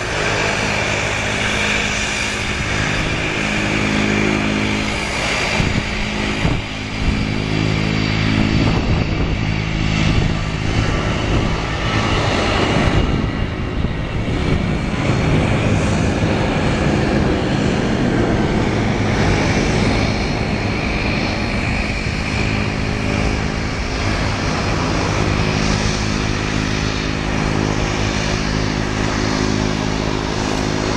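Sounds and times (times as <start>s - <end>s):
jet engines at takeoff: 0.0s - 30.9s.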